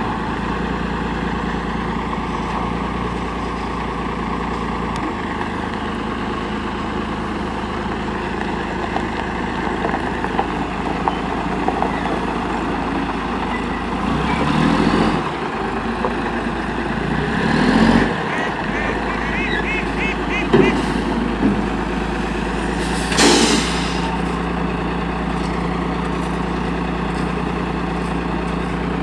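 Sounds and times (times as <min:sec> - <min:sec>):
garbage truck diesel engine: 0:00.0 - 0:29.0.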